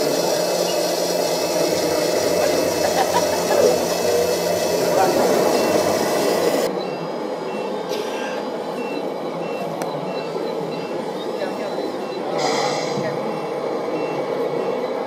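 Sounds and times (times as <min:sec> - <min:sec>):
reversing beeper: 0:00.0 - 0:15.0.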